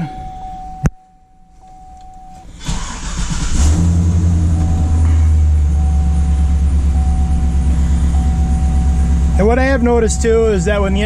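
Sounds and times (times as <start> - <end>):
pickup engine cranking and idling: 1.6 - 11.0.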